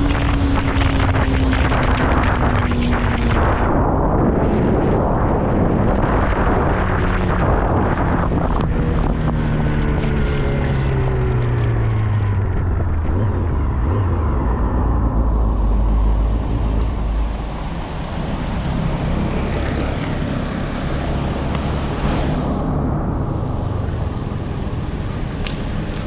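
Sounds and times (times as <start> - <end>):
motorcycle engine rumble: 0.0 - 26.0
wind noise on microphone: 0.0 - 26.0.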